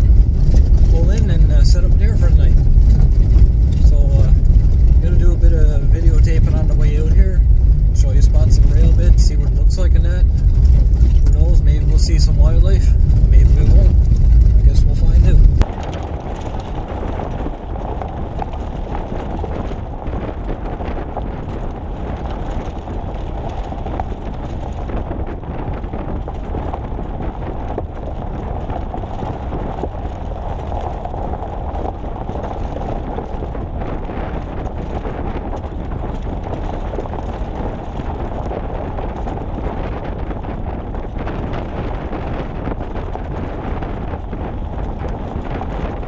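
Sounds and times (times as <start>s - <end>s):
road and wind rumble: 0.0s - 46.0s
tyres crunching on gravel: 0.0s - 46.0s.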